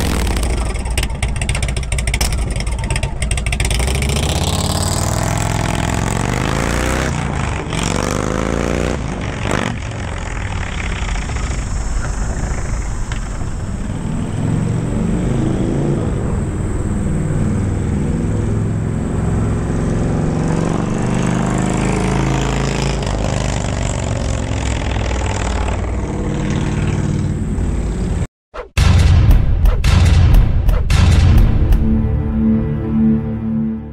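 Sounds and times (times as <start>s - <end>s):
motorcycle engine revving: 0.0s - 28.3s.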